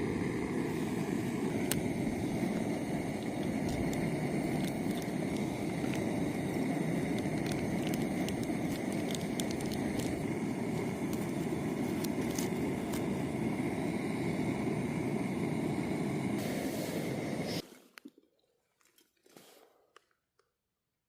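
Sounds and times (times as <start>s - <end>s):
gas burner rushing: 0.0s - 17.6s.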